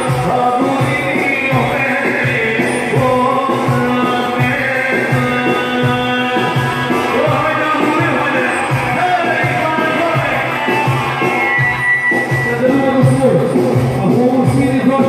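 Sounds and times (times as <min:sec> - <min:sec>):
live band music: 0:00.0 - 0:15.0
man singing: 0:00.0 - 0:15.0.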